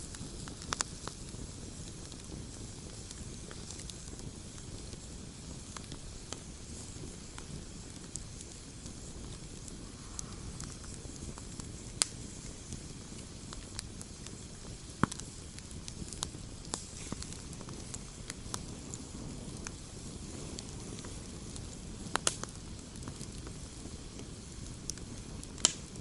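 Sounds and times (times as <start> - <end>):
campfire crackling and popping: 0.0 - 26.0
low rumble of burning: 0.0 - 26.0.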